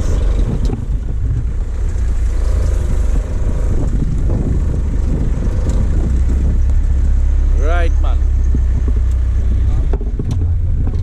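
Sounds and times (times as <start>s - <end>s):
pickup truck driving on dirt: 0.0s - 11.0s.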